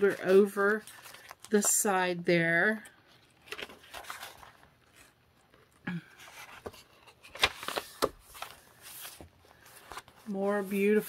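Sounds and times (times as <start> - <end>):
paper crackling: 0.0 - 1.8, 3.2 - 5.6, 6.2 - 11.0
paper pages rustling and turning: 0.0 - 1.9, 3.0 - 11.0.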